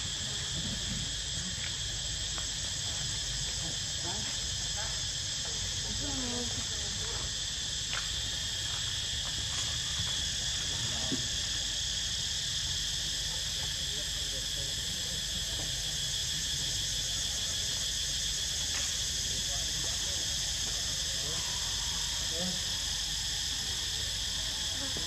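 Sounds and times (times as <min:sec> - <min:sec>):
shrill insect chorus: 0:00.0 - 0:25.0.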